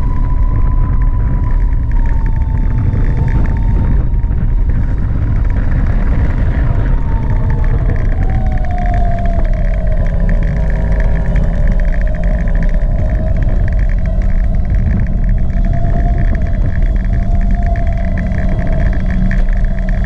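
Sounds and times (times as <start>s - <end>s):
electric scooter motor whine: 0.0s - 20.0s
low rumble of wind and road: 0.0s - 20.0s.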